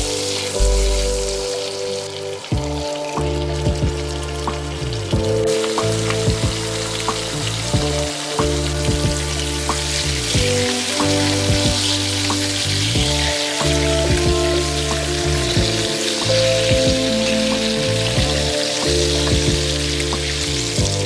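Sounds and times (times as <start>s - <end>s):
background music: 0.0s - 21.0s
chicken sizzling in a pan: 0.0s - 21.0s.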